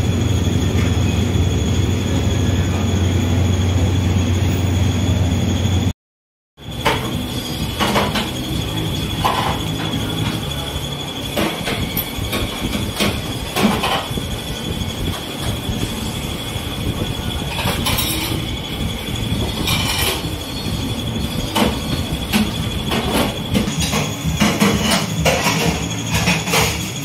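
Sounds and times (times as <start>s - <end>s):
kitchen machinery rumbling: 0.0s - 5.9s, 6.6s - 27.0s
high steady whine: 0.0s - 6.0s, 6.6s - 27.0s.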